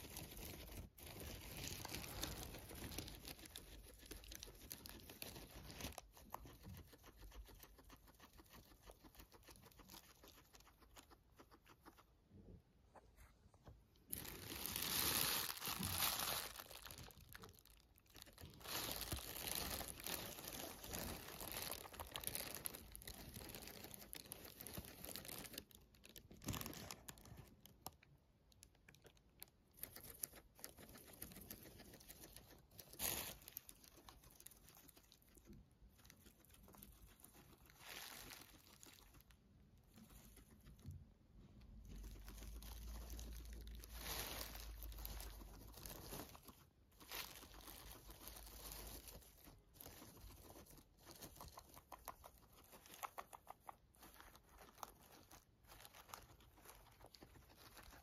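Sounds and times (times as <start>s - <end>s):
plastic bag crinkling: 0.0s - 6.2s, 14.0s - 40.8s, 41.8s - 58.0s
guinea pig chewing: 0.0s - 12.8s, 13.8s - 58.0s.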